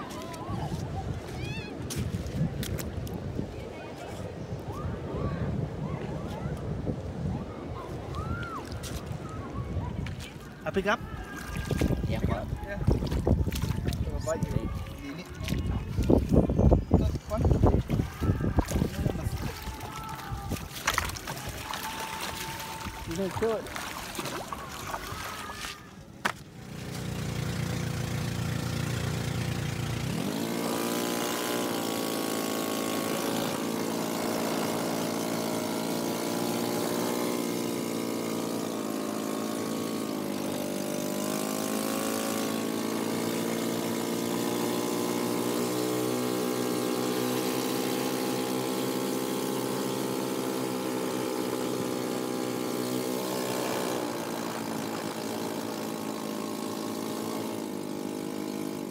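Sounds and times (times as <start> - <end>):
boat engine running: 7.7 - 58.9.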